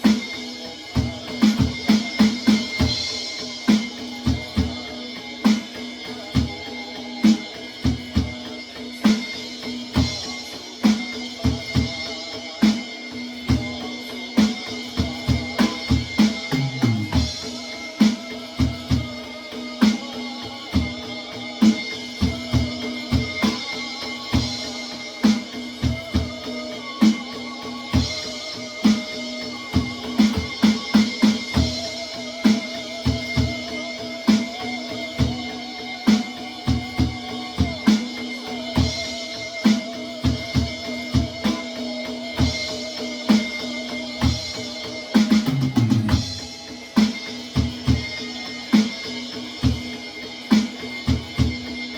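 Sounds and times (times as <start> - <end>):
electronic drum kit: 0.0 - 51.9
pop-rock backing track with guitar: 0.0 - 51.9.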